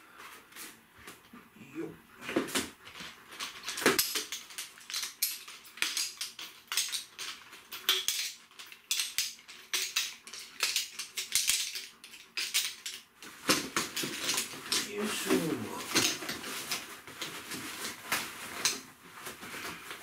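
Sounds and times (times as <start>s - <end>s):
metal poles clinking and rattling: 2.9s - 20.0s.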